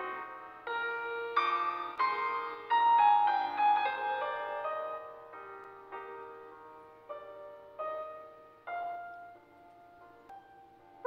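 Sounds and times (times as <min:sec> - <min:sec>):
simple piano melody: 0:00.0 - 0:11.0.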